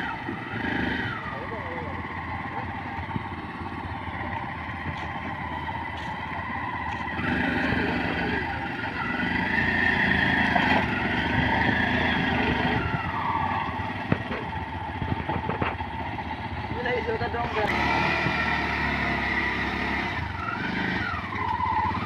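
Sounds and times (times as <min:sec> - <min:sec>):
small engine running under load: 0:00.0 - 0:22.0.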